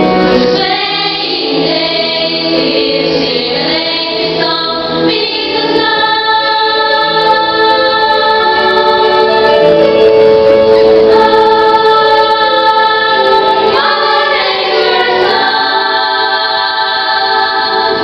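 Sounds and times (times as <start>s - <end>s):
choir singing in harmony: 0.0s - 18.0s.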